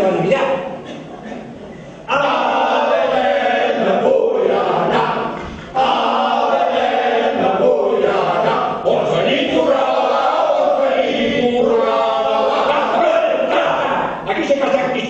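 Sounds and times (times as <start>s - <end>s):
choir singing: 2.1s - 14.3s.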